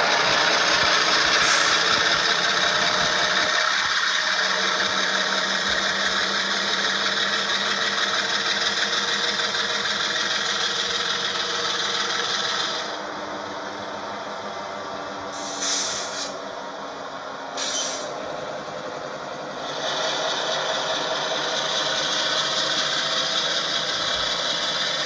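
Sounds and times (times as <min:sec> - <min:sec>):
model diesel engine sound: 0:00.0 - 0:25.0.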